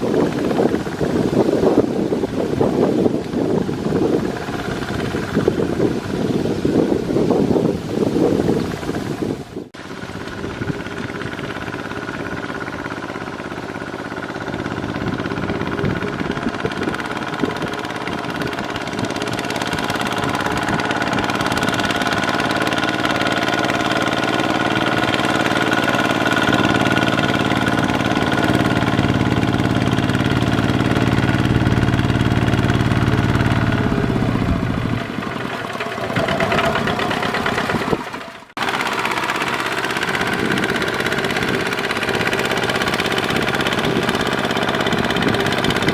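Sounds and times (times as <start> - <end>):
diesel tractor engine running: 0.0 - 45.9.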